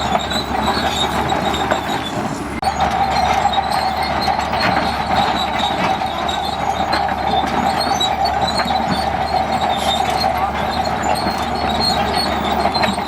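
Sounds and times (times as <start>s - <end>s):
bulldozer running: 0.0s - 13.0s.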